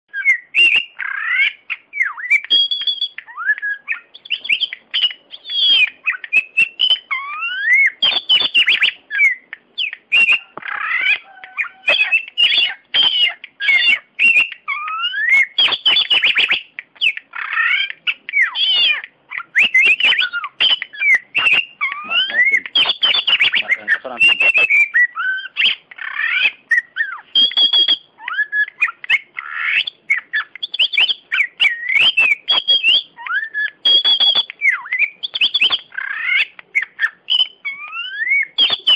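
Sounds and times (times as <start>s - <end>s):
bird singing varied whistles: 0.1s - 38.9s
sharp bird clicking notes: 0.6s - 38.9s.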